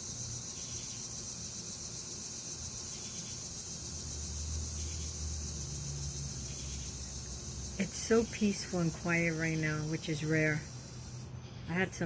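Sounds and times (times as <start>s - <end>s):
crickets chirping chorus: 0.0s - 12.0s.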